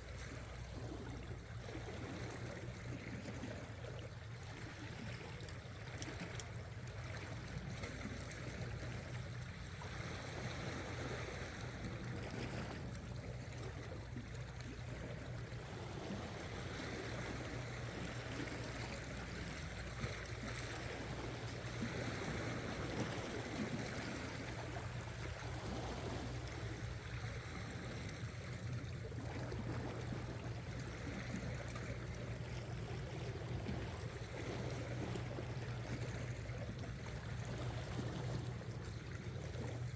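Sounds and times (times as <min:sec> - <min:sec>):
sea water washing around rocks: 0:00.0 - 0:39.9.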